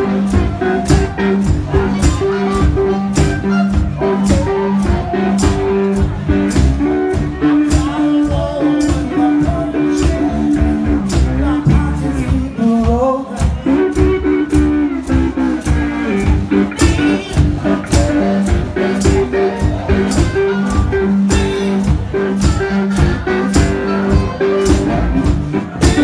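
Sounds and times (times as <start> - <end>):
blues rock band playing: 0.0 - 26.0
steady drum beat: 0.0 - 26.0.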